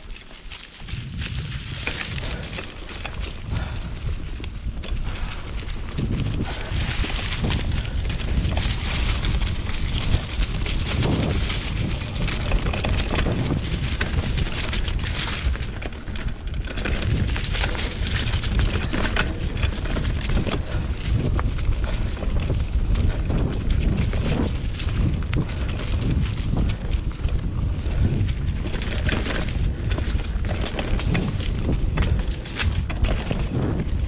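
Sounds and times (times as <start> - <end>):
bike rattling: 0.0 - 34.0
tyres crackling over leaves: 0.0 - 34.0
wind rumble on microphone: 0.0 - 34.0.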